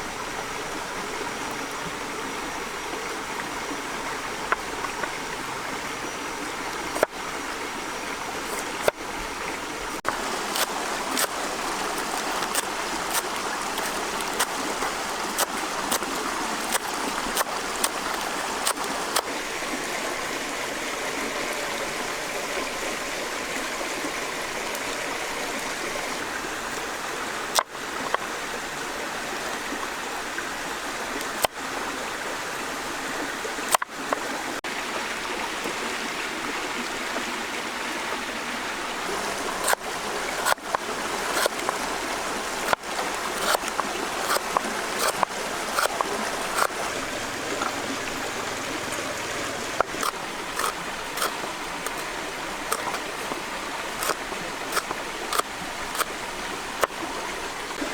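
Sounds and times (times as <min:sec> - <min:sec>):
flowing stream water: 0:00.0 - 0:57.9.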